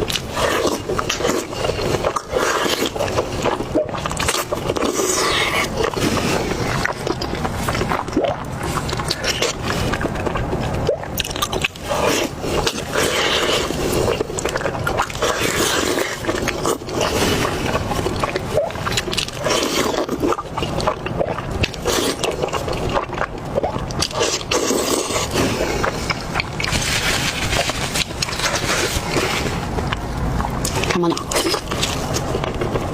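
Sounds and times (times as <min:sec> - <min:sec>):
close chewing and crunching: 0:00.0 - 0:32.9.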